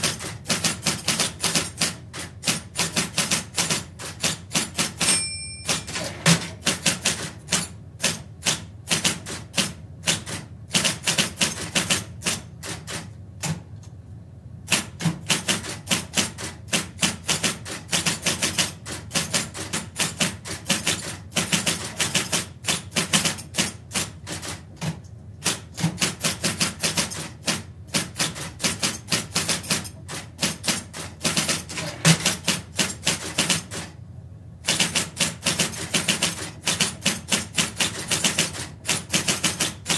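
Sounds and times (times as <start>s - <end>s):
electric typewriter key strikes: 0.0s - 13.6s, 14.7s - 34.0s, 34.7s - 39.9s.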